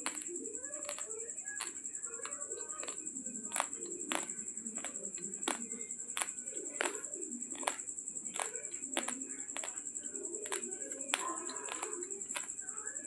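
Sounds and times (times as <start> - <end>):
raw rice crunching between teeth: 0.0 - 12.8.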